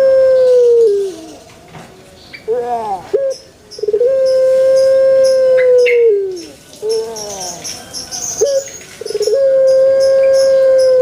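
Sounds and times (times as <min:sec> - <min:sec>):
dove calling: 0:00.0 - 0:01.5, 0:02.3 - 0:11.0.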